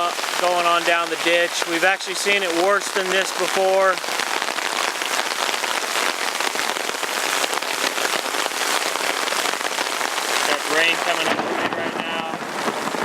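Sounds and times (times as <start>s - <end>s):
hard rain pattering: 0.0s - 13.0s.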